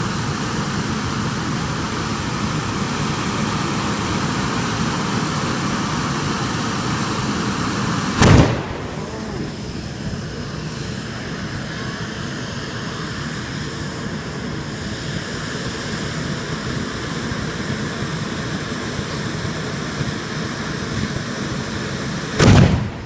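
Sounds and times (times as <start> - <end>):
firework fountain hissing: 0.0 - 23.0.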